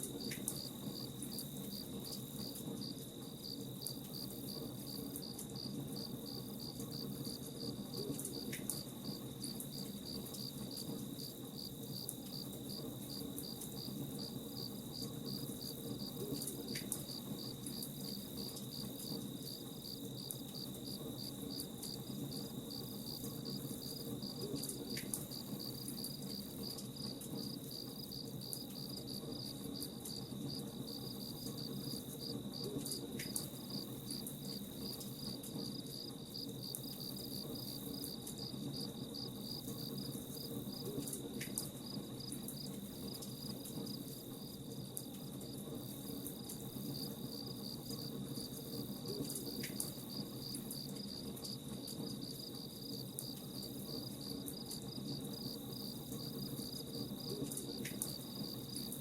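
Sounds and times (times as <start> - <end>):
campfire crackles: 0.0 - 59.0
crickets chirping: 0.0 - 59.0
low steady hiss: 0.0 - 59.0.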